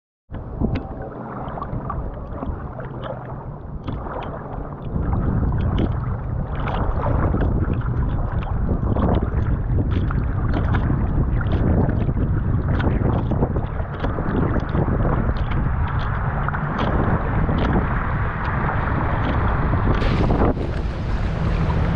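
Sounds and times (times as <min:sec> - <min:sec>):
water splashing against hull: 0:00.3 - 0:21.9
wind buffeting microphone: 0:00.3 - 0:21.9.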